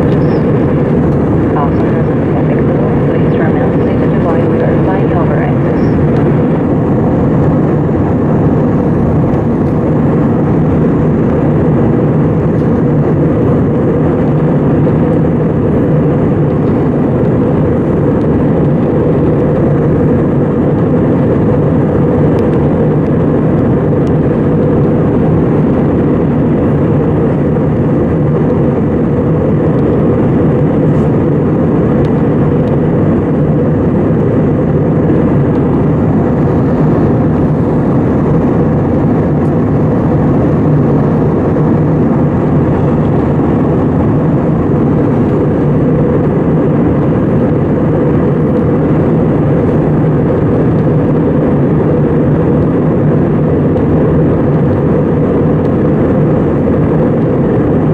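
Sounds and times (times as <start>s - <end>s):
airplane cabin engine and airflow noise: 0.0s - 57.9s.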